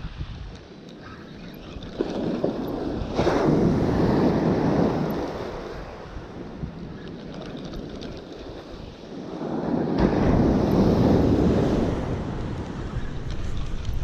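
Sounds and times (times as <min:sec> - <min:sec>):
wind buffeting microphone: 0:00.0 - 0:14.0
waves breaking on beach: 0:01.8 - 0:14.0.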